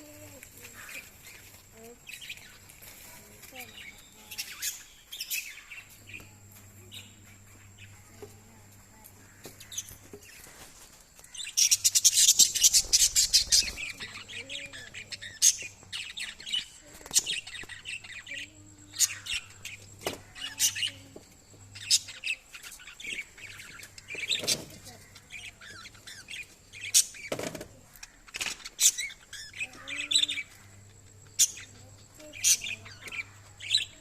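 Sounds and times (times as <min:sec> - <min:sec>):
parrots chirping and squawking: 0:00.0 - 0:34.0.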